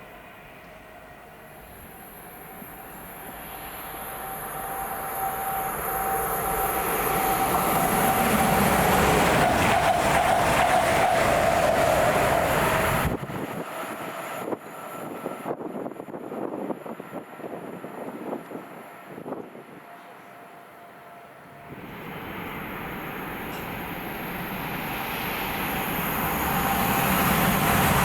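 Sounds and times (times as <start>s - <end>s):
train passing with wheel clatter: 0.0s - 28.0s
train whine: 0.0s - 28.0s.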